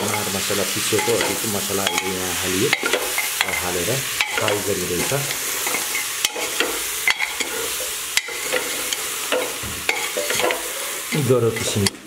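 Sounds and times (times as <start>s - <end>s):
metal ladle scraping a pot: 0.0s - 11.9s
meat sizzling in a pot: 0.0s - 12.0s.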